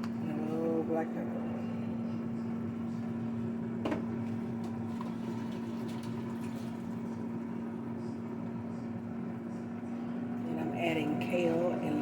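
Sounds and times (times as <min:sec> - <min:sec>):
kitchen appliance humming: 0:00.0 - 0:12.0.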